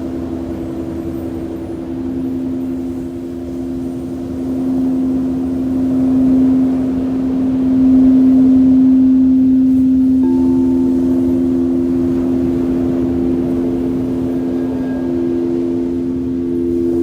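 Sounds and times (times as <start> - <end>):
ocean surf: 0.0 - 17.0
singing bowls ringing: 0.0 - 17.0.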